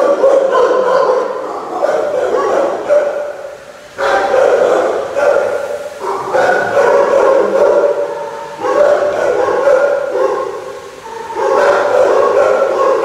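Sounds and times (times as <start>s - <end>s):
dogs howling: 0.0s - 13.0s.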